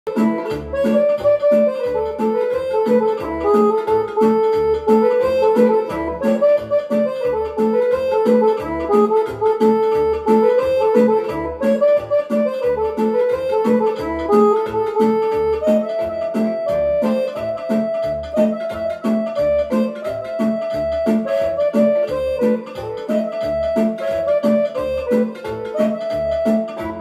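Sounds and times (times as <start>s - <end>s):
keyboard melody with rhythm accompaniment: 0.0s - 27.0s.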